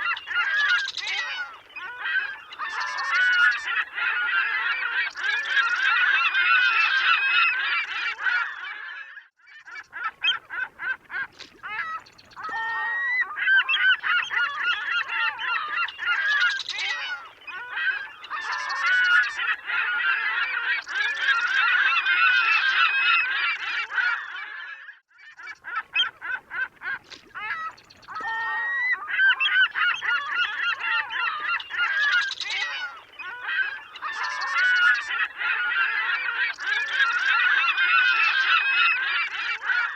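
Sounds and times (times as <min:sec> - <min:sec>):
gulls squawking: 0:00.0 - 0:09.0, 0:09.7 - 0:24.8, 0:25.4 - 0:39.9.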